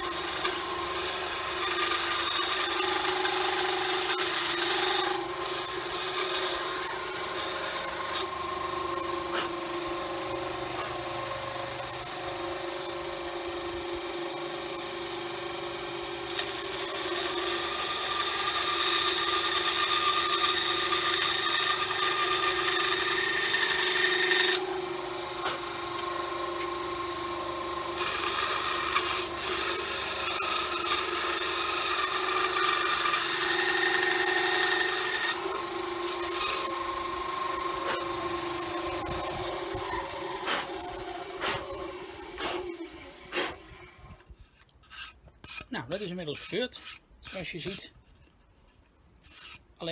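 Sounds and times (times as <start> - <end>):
saw blade rasping in wood: 0.0 - 12.8, 16.2 - 49.9
band saw motor hum: 0.0 - 44.2.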